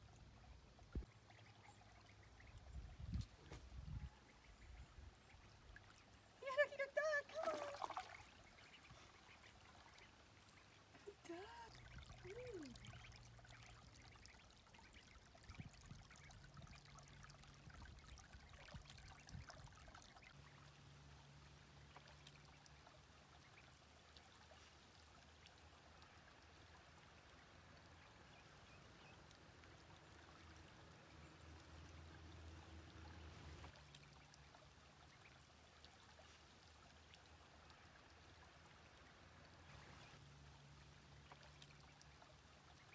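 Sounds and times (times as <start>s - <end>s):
creek trickling: 0.0s - 42.9s.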